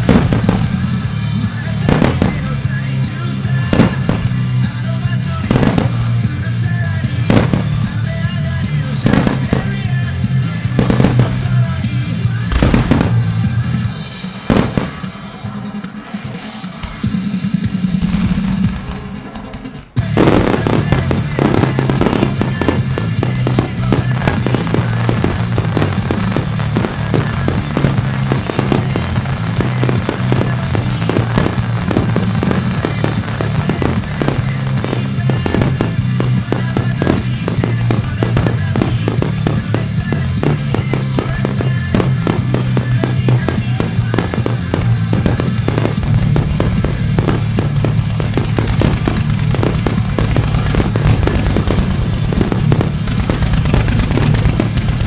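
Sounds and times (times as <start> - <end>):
fireworks bangs and crackles: 0.0 - 55.0
low boom: 0.0 - 55.0
rock song over loudspeakers: 0.0 - 55.0.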